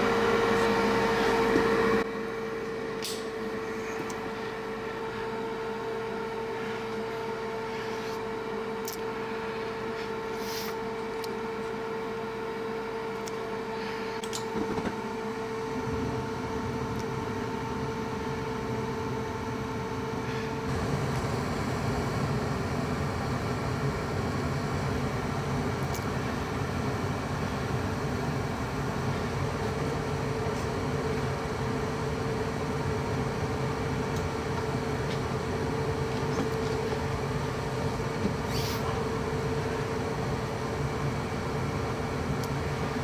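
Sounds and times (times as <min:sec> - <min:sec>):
furnace draft inducer whine: 0:00.0 - 0:43.0.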